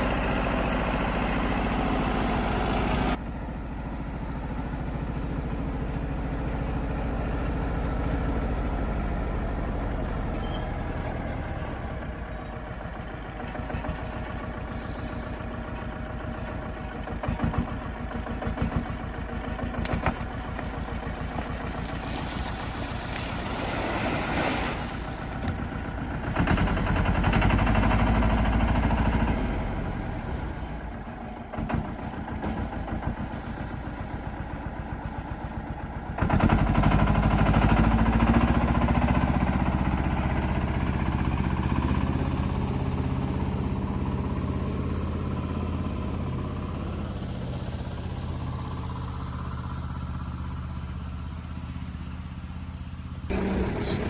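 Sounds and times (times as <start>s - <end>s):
heavy machine diesel engine: 0.0s - 54.0s.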